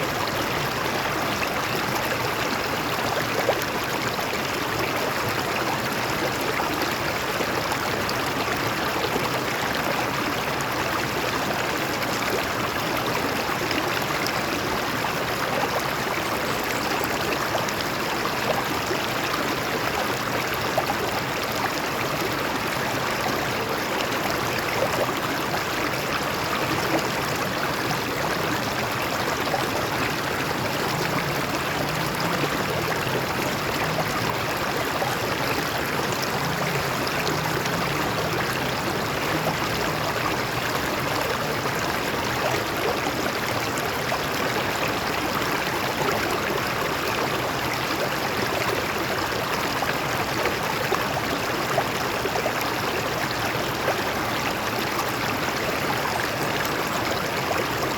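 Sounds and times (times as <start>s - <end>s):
stream splashing over rocks: 0.0s - 57.9s.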